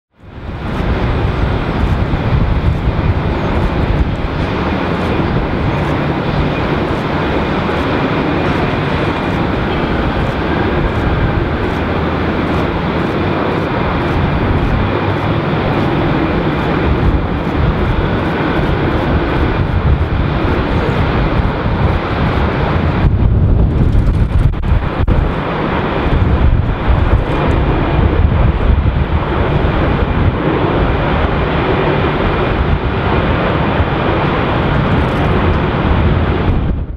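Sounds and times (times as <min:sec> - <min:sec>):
wind on microphone: 0:00.1 - 0:36.9
jet engines rumbling: 0:00.2 - 0:36.9.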